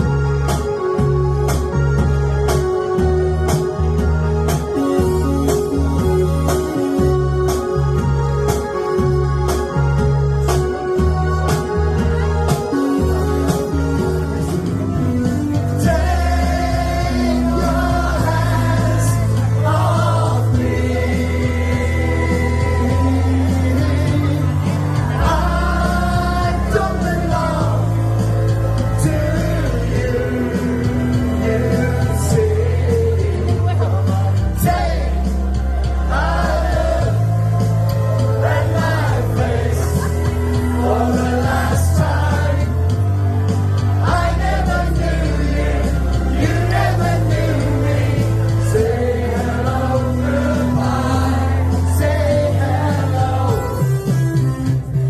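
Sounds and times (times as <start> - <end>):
bass notes: 0.0 - 55.0.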